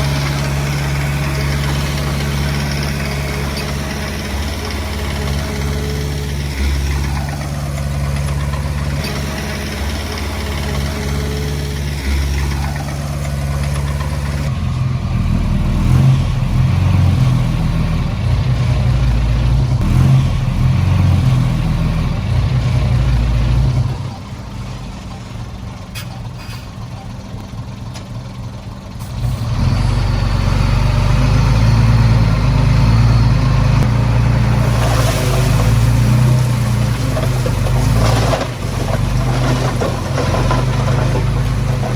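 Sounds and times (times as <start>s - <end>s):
heavy diesel engine under load: 0.0s - 41.9s.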